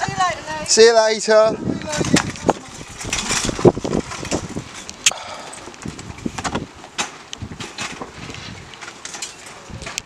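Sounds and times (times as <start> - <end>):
handling knocks and rustling: 1.8 - 10.0.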